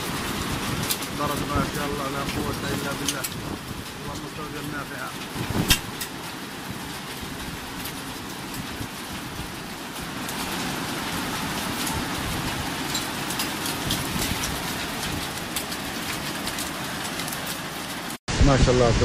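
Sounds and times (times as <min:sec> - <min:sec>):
raindrops ticking close by: 0:00.0 - 0:18.2
heavy rain falling: 0:00.0 - 0:19.0.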